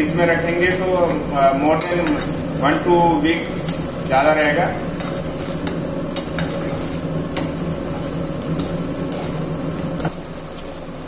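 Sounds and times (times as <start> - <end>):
syrup sizzling in saucepan: 0.0 - 11.0.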